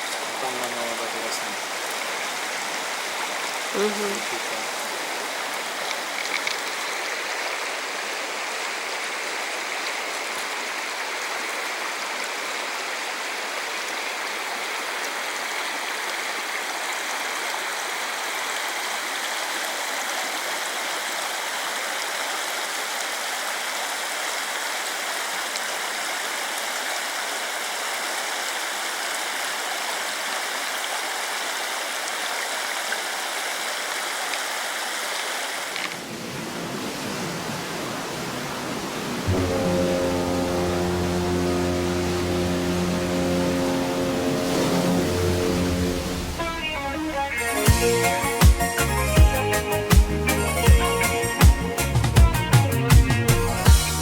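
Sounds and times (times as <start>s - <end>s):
waterfall rushing: 0.0s - 51.4s.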